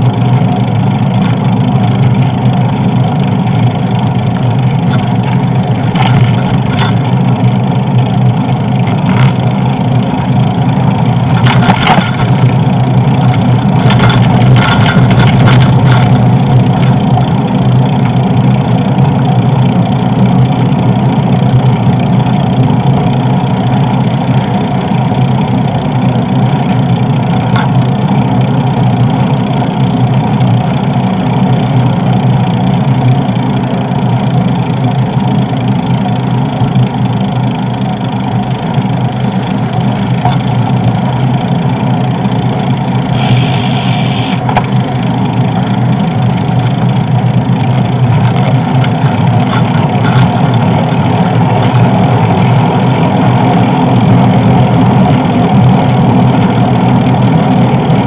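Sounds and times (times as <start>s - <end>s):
tyres rolling on asphalt: 0.0s - 43.4s, 44.3s - 58.0s.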